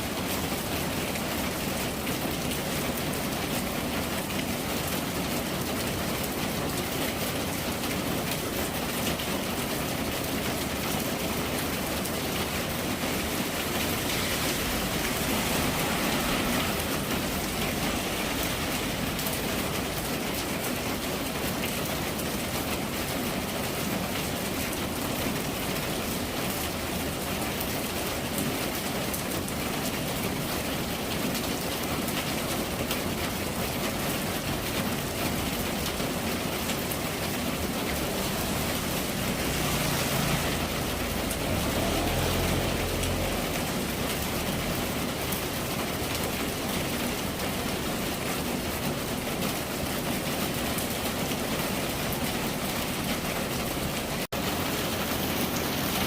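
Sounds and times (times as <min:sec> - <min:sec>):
rain pattering on surfaces: 0:00.0 - 0:56.0.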